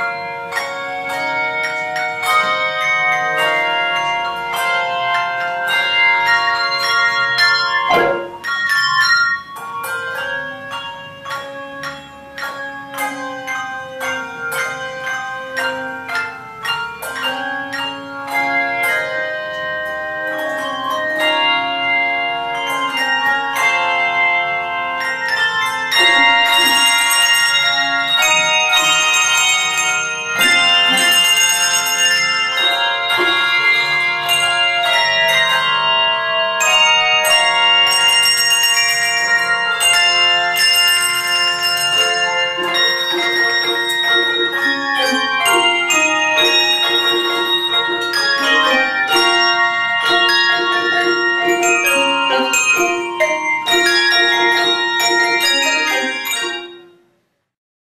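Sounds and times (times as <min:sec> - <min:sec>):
handbell choir ringing chords: 0:00.0 - 0:57.1.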